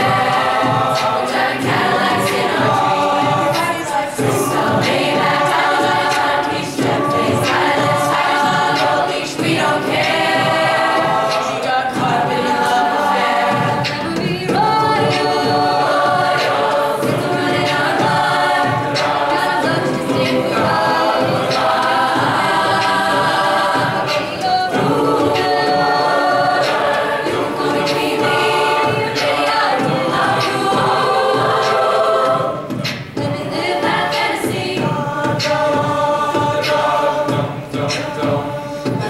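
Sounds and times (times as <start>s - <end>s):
choir singing a cappella: 0.0s - 39.0s.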